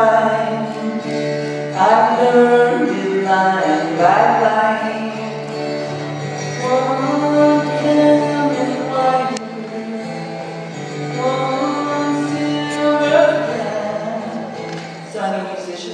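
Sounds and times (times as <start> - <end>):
woman singing: 0.0 - 5.5, 6.4 - 15.9.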